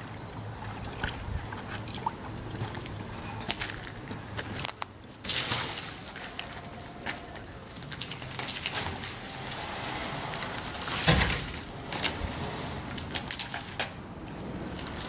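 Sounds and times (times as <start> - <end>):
dry branches rustling and crackling: 2.7 - 15.0.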